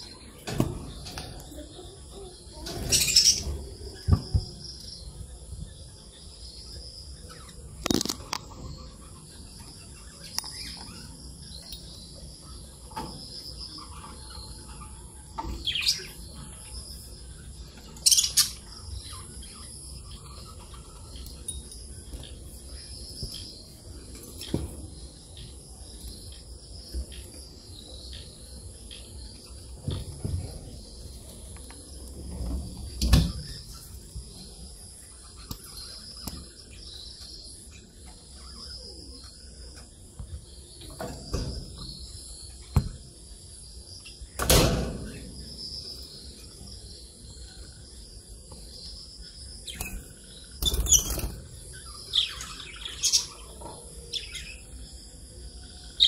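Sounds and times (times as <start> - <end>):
bird chirps: 0.0 - 56.0.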